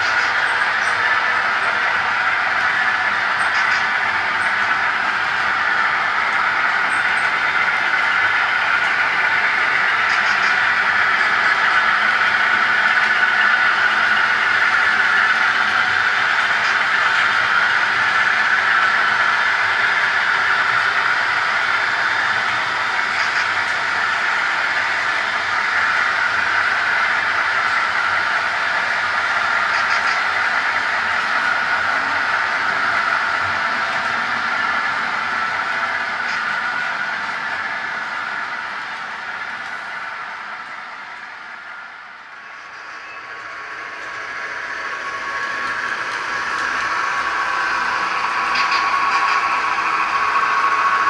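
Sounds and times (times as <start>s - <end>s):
model train wheels rolling on rails: 0.0s - 51.0s.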